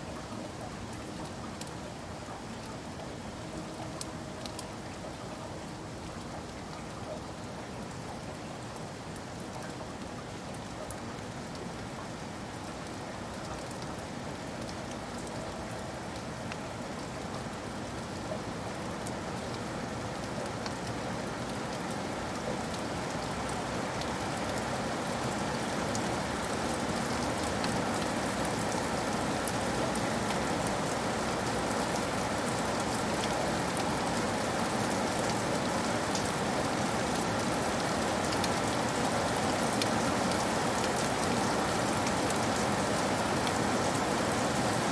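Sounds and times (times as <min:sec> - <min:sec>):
rain patter: 0:00.0 - 0:44.9.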